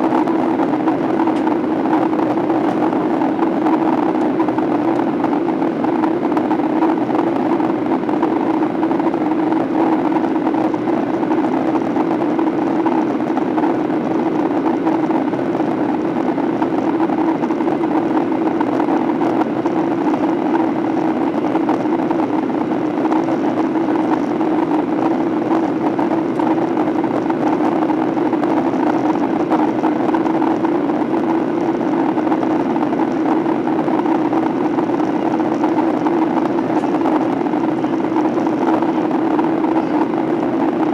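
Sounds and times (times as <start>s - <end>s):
jet engines droning: 0.0s - 40.9s.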